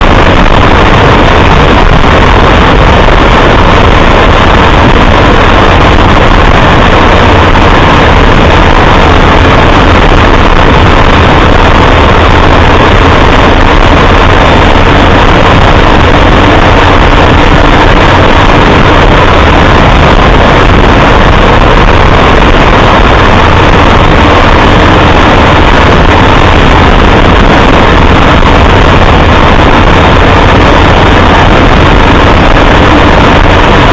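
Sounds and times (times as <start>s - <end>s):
vehicle engine road and wind noise: 0.0s - 33.9s.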